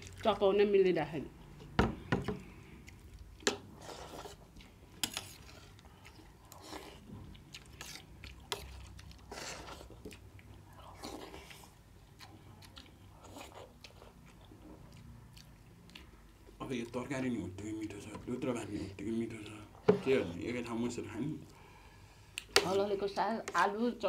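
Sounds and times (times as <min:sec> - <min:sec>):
people chewing: 0:00.0 - 0:00.5, 0:01.4 - 0:22.7.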